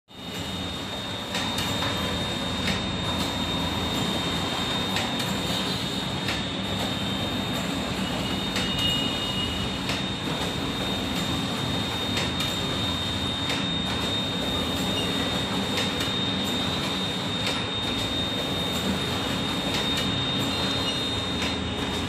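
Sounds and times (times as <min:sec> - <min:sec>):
copier mechanical hum and whine: 0:00.1 - 0:22.0.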